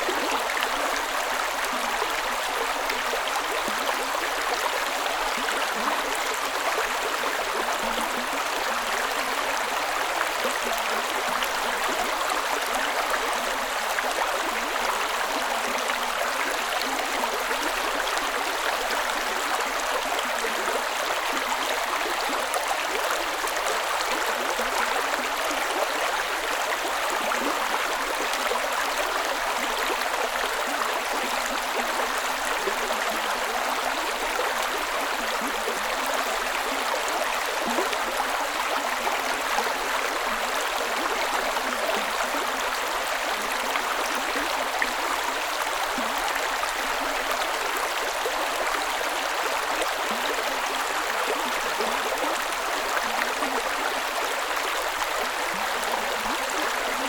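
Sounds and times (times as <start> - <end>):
creek water over rocks: 0.0 - 57.0.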